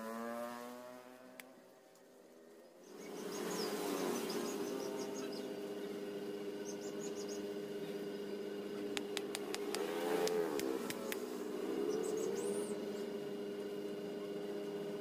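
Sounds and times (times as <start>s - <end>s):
steady buzzing drone: 0.0s - 15.0s.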